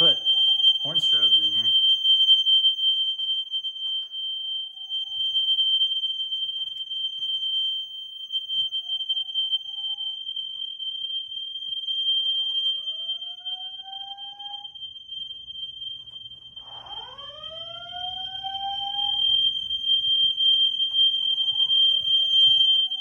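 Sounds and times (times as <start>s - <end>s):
alarm speaker whoop: 0.0s - 7.3s, 11.2s - 23.0s
fire alarm high-pitched tone: 0.0s - 23.0s.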